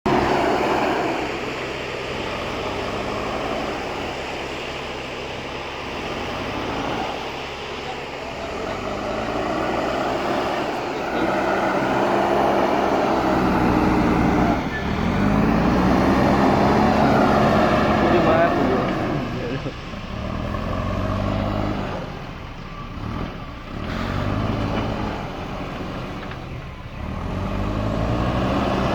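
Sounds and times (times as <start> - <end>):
diesel engine revving: 0.0 - 28.9.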